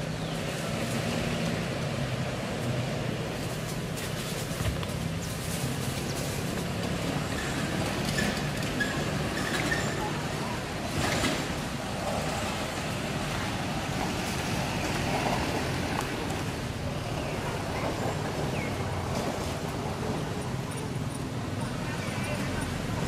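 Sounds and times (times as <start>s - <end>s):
rushing outdoor background noise: 0.0s - 23.0s.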